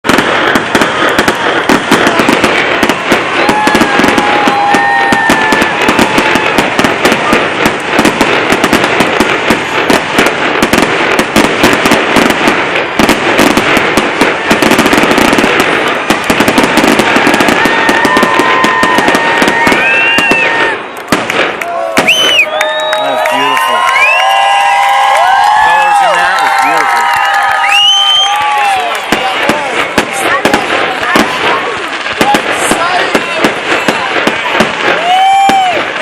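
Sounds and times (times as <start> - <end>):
fireworks bangs and crackles: 0.0 - 36.0
fireworks whistles: 0.0 - 36.0.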